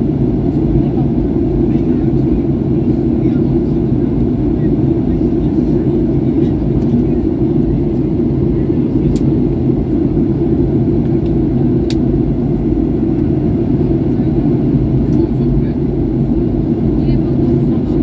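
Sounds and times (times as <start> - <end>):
aircraft cabin drone: 0.0 - 18.0.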